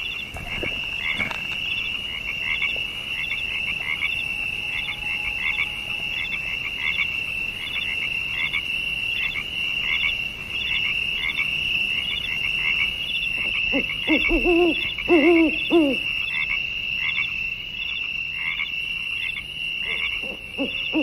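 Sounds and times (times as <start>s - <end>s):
frogs trilling: 0.0s - 21.0s
short frog calls: 0.0s - 21.0s
lower wavering frog call: 1.8s - 8.6s, 9.2s - 18.6s, 19.3s - 21.0s.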